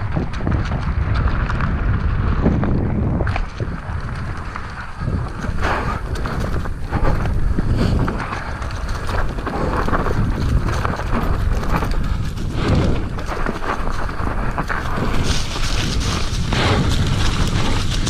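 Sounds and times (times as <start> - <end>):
bike rattling over bumps: 0.0 - 18.0
tyres rumbling over rough ground: 0.0 - 18.0
wind buffeting microphone: 0.0 - 18.0.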